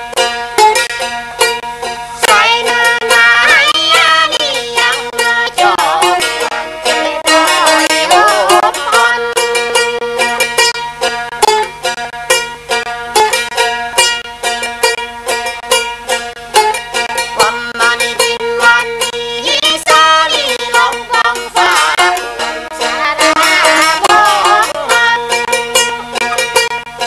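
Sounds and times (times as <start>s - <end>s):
plucked lute notes: 0.0s - 27.0s
person singing folk song: 1.8s - 27.0s.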